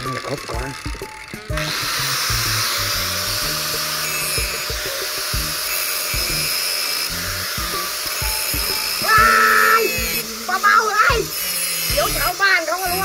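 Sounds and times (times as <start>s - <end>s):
background music with bassline: 0.0s - 11.3s
angle grinder cutting metal: 0.0s - 13.0s.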